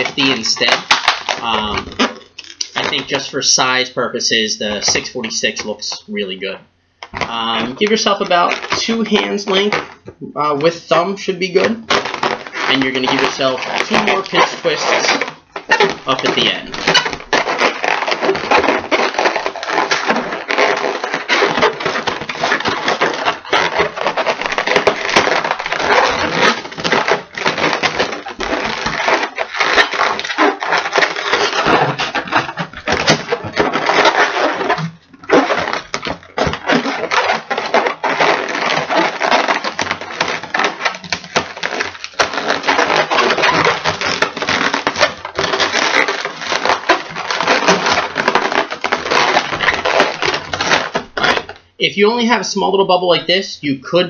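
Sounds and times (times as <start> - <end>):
balloon rubbing and squeaking: 0.0 - 54.0.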